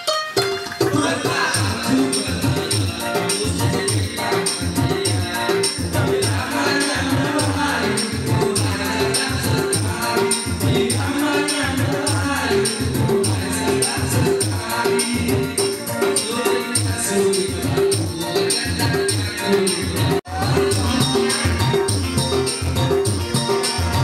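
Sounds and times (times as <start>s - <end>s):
electronic keyboard: 0.0s - 24.0s
shaker-like percussion: 0.0s - 24.0s
steady beat: 0.1s - 24.0s
repeating bass line: 1.0s - 24.0s.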